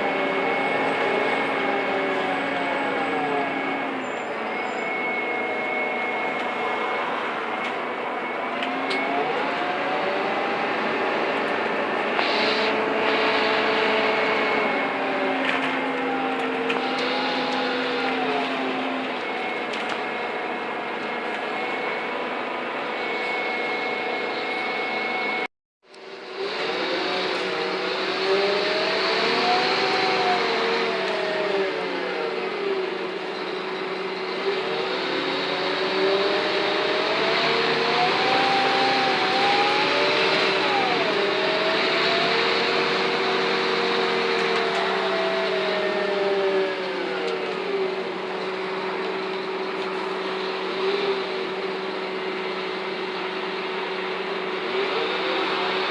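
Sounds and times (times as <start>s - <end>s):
bus engine labouring with whine: 0.0s - 55.9s.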